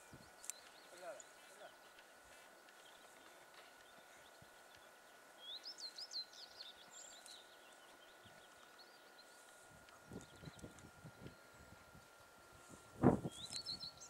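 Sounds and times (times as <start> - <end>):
small bird chirping: 0.0 - 11.6, 13.2 - 14.0
faint open-air hiss: 0.0 - 14.0.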